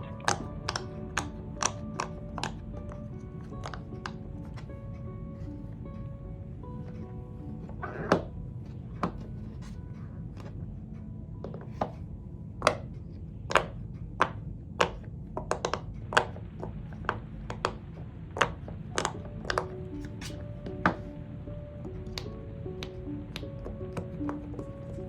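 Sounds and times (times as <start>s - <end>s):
low background noise: 0.0s - 25.0s.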